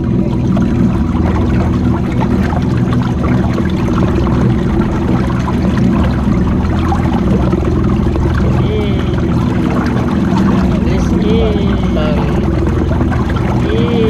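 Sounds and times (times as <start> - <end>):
steady low hum: 0.0 - 14.0
water churning and trickling: 0.0 - 14.0.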